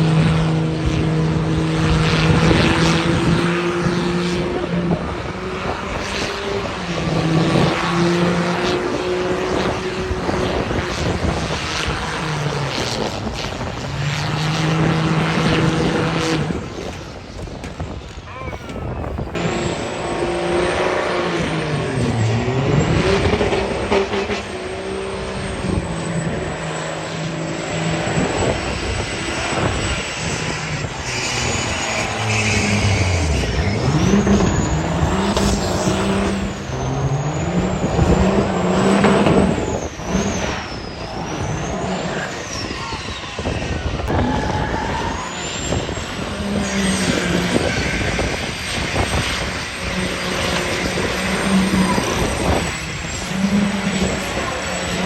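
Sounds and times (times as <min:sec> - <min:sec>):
high whine: 0:00.0 - 0:55.0
truck engines revving hard: 0:00.0 - 0:55.0.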